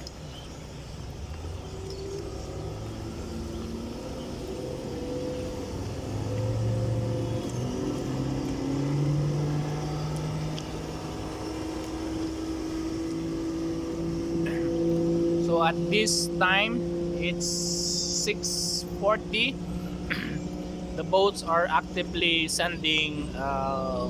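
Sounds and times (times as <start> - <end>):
motorboat engines running: 0.0 - 24.0.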